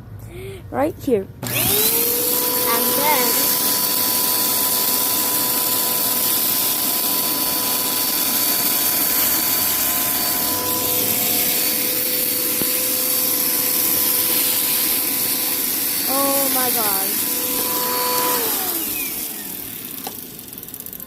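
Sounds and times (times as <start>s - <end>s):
vacuum cleaner running: 1.4s - 21.0s
vacuum sucking loose dirt: 1.4s - 21.0s.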